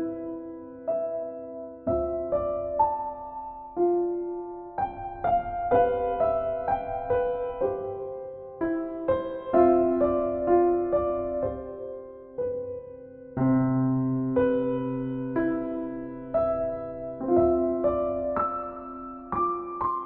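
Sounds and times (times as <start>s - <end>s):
soft solo piano music: 0.0s - 20.0s.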